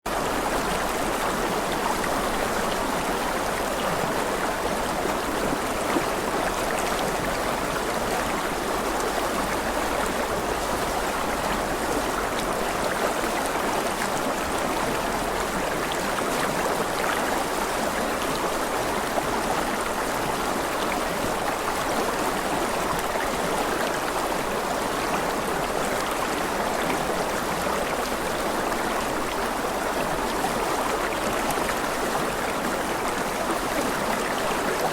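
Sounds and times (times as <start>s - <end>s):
river water flowing: 0.1s - 34.9s.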